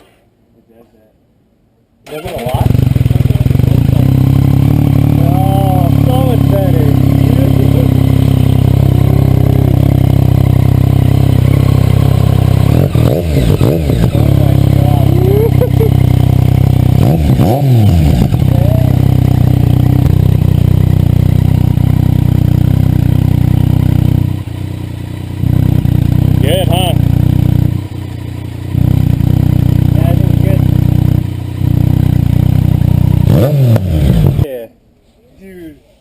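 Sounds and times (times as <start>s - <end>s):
motorcycle engine revving: 2.2s - 34.5s.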